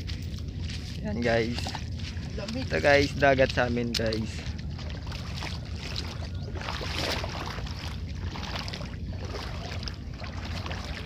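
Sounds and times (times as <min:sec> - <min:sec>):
wind rumbling on microphone: 0:00.0 - 0:11.0
sea waves washing: 0:00.5 - 0:11.0.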